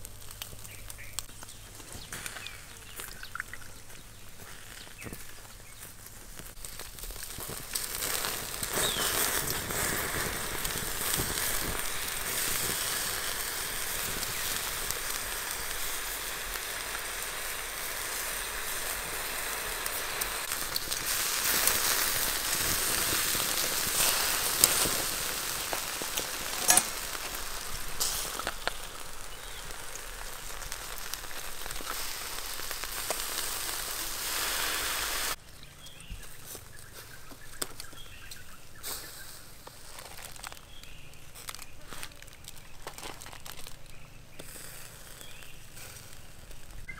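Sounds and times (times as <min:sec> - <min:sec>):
beef sizzling over fire: 0:00.0 - 0:46.9.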